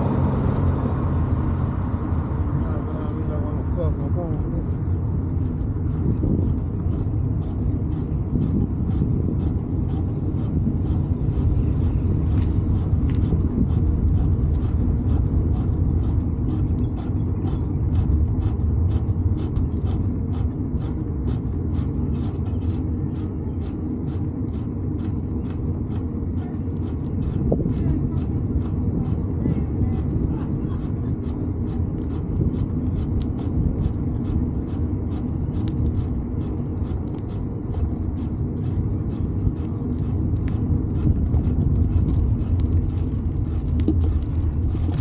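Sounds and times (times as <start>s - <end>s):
wind and road noise: 0.0s - 45.0s
faint rapid clicks: 4.2s - 45.0s.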